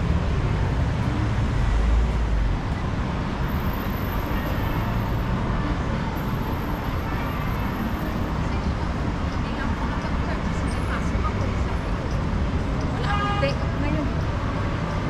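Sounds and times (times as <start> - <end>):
traffic din: 0.0 - 15.0.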